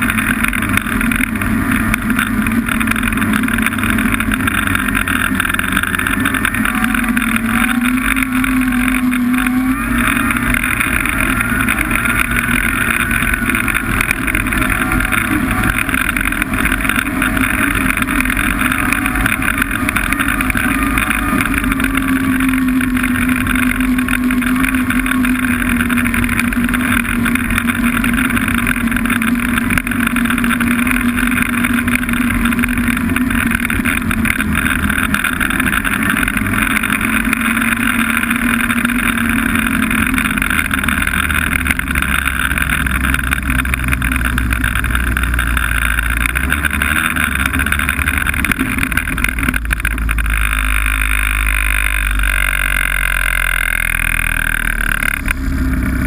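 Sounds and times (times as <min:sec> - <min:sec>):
constant rush of noise: 0:00.0 - 0:56.0
snowmobile engine running: 0:00.0 - 0:56.0.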